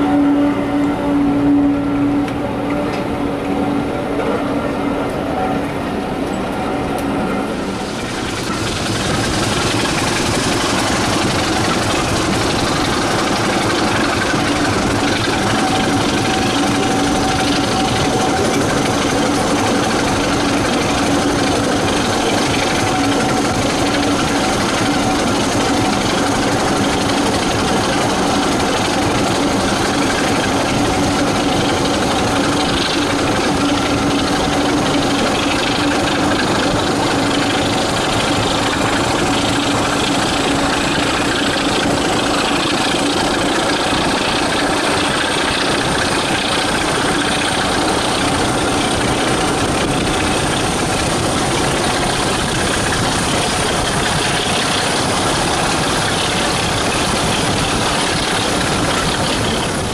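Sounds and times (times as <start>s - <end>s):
diesel train engine: 0.0s - 59.9s
wheels on rails: 0.0s - 59.9s.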